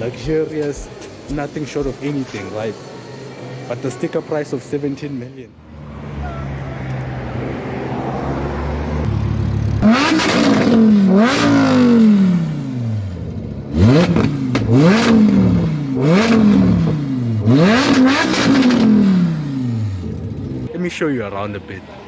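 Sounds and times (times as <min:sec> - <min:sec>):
car engine revving: 0:00.0 - 0:20.7.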